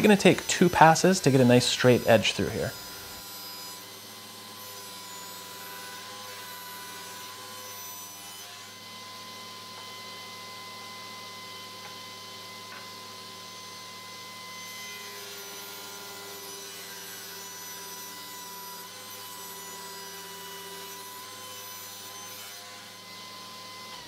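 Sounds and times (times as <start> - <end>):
table saw cutting wood: 0.0 - 24.0.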